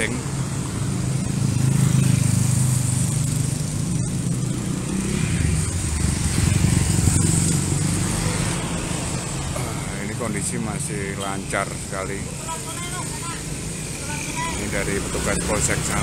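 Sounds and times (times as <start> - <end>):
cars passing: 0.0 - 16.0
motorcycles passing: 0.0 - 16.0.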